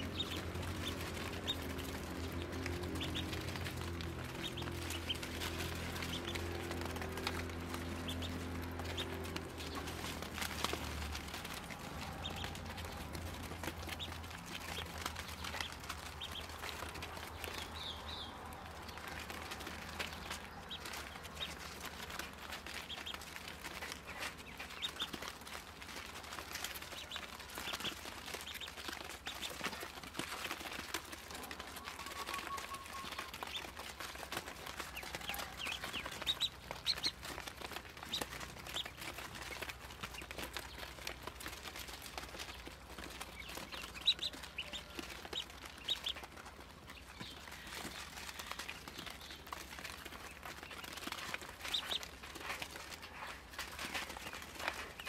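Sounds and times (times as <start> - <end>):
ducklings peeping: 0.0 - 55.0.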